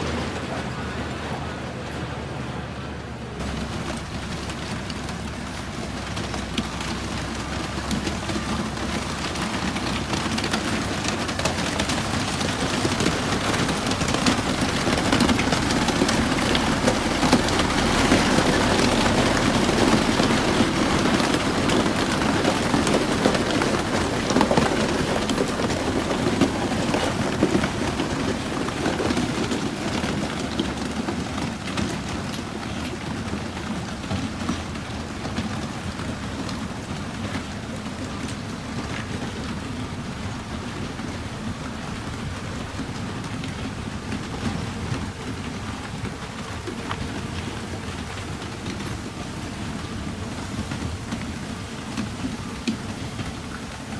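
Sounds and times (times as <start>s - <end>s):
diesel engine running: 0.0s - 53.5s
rattle and crunch of stones: 3.3s - 53.9s.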